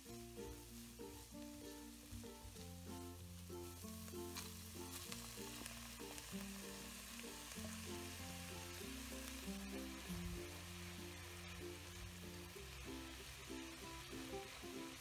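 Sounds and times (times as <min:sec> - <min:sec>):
carrots sizzling in a pot: 0:00.0 - 0:15.0
plucked-string tune: 0:00.0 - 0:15.0.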